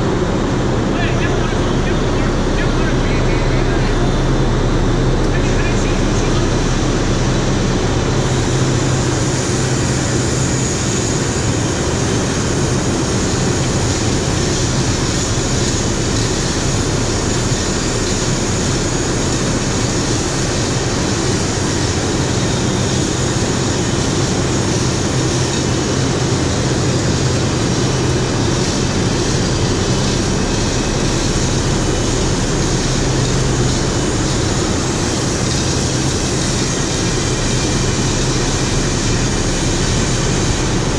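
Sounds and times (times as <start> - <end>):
industrial machinery drone: 0.0 - 40.9.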